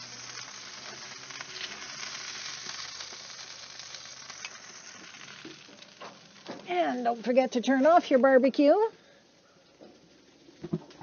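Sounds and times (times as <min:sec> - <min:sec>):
meat sizzling on a grill: 0:00.0 - 0:10.8.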